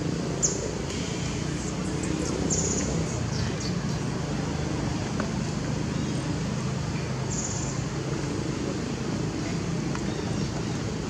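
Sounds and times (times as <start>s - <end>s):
outdoor background hum: 0.0s - 11.0s.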